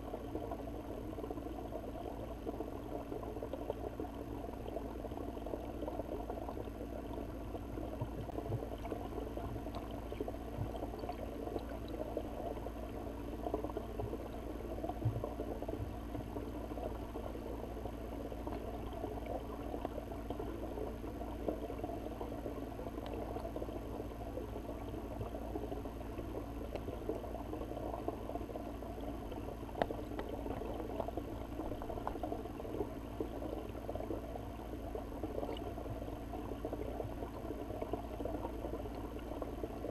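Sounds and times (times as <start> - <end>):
faint ticks: 0.0 - 39.9
muffled underwater crackling hiss: 0.0 - 39.9.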